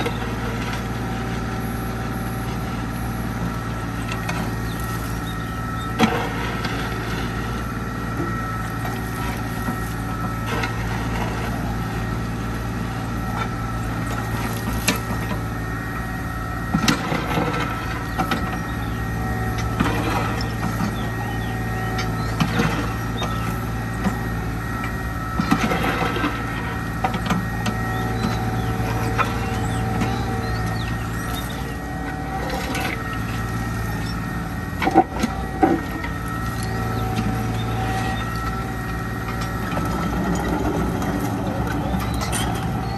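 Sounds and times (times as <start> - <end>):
excavator diesel engine running: 0.0 - 42.9
steady high whine: 0.0 - 42.9.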